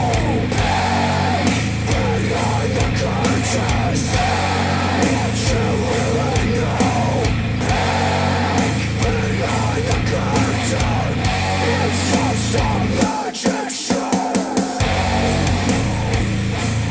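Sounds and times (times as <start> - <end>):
heavy rock song with vocals: 0.0 - 16.9.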